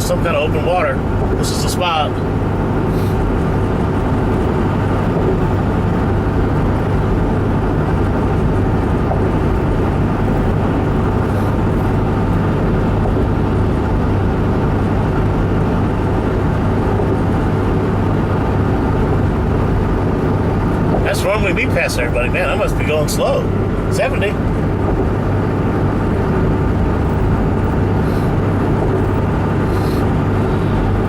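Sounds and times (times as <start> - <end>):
truck cabin road and engine noise: 0.0 - 31.0.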